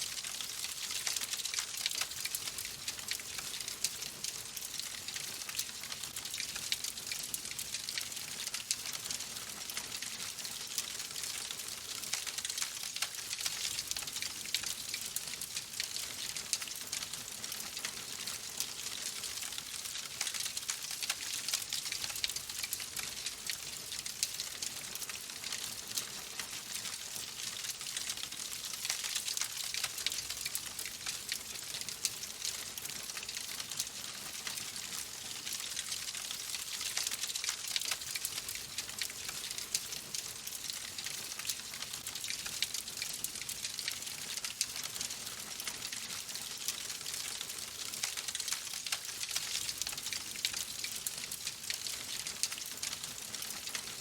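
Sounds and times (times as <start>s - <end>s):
fireplace fire crackling: 0.1s - 53.9s.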